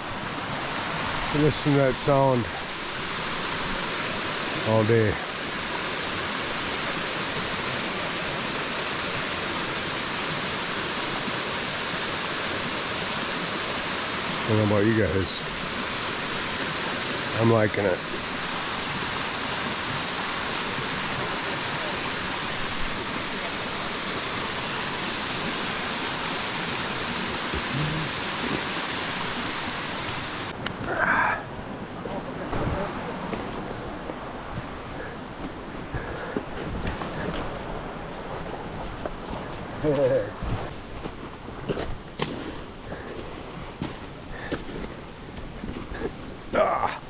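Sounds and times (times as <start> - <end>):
waterfall rushing: 0.0 - 38.8.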